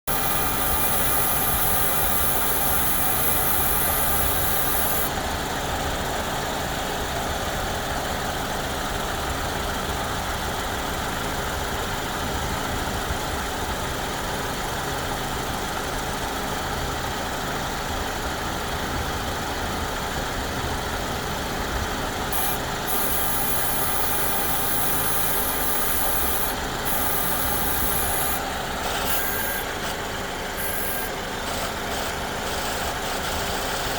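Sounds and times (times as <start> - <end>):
high-pitched ac compressor buzz: 0.0 - 7.2, 7.9 - 33.9
car engine idling: 0.1 - 33.9.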